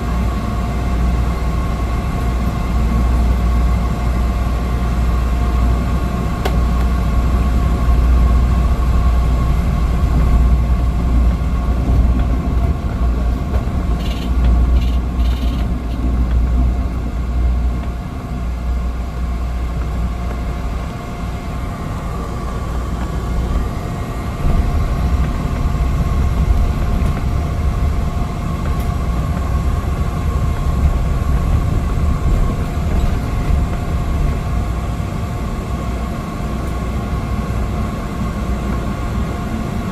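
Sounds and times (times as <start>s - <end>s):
engine whine: 0.0s - 39.9s
turboprop engine drone: 0.0s - 39.9s.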